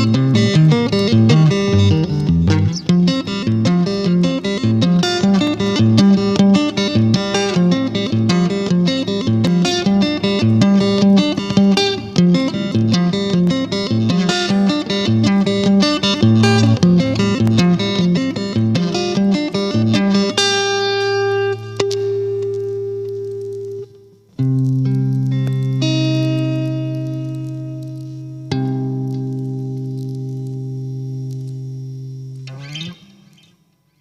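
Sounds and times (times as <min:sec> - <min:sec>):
electric guitar playing: 0:00.0 - 0:33.8.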